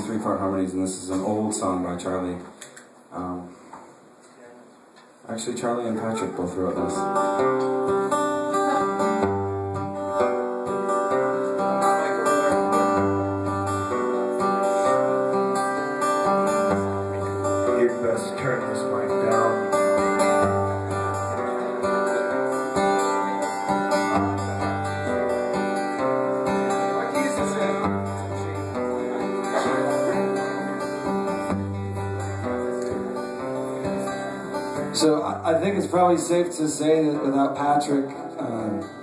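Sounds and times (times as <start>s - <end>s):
acoustic guitar playing: 0.0s - 2.4s, 5.6s - 39.0s.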